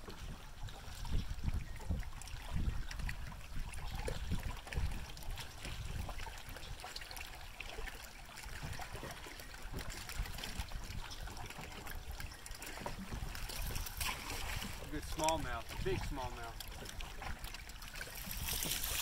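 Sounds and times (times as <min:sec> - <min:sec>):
small waves lapping against hull: 0:00.0 - 0:19.0
wind rumbling on microphone: 0:00.0 - 0:19.0.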